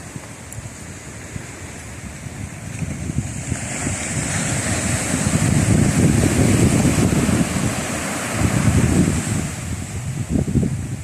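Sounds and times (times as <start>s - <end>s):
sea waves washing ashore: 0.0s - 11.0s
wind buffeting microphone: 0.0s - 11.0s.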